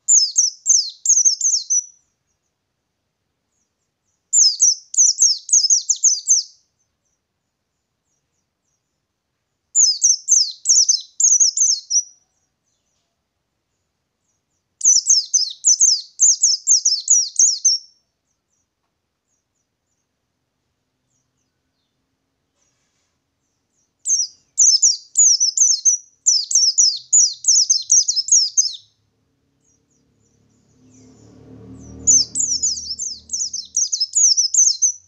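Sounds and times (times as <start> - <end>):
bird singing rolling song: 0.0 - 35.0.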